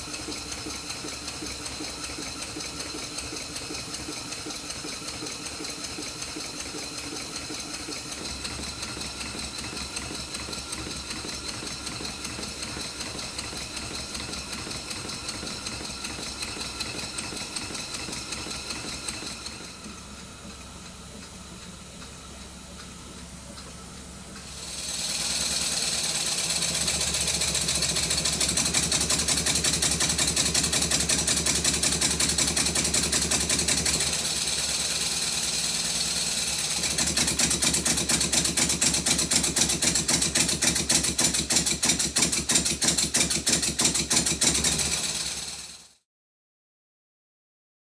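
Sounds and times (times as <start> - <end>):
model steam engine running: 0.0 - 46.0.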